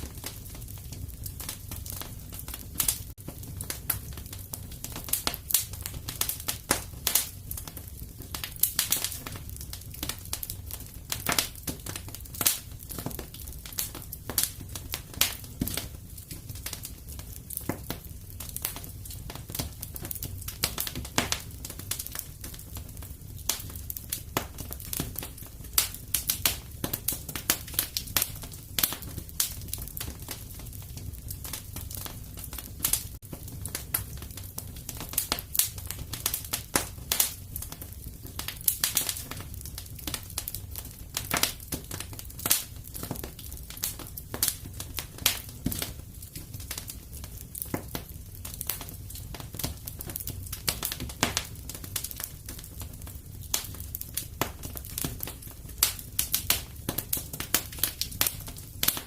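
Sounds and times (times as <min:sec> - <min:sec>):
fire low rumble: 0:00.0 - 0:59.0
wood fire crackling: 0:00.0 - 0:59.0.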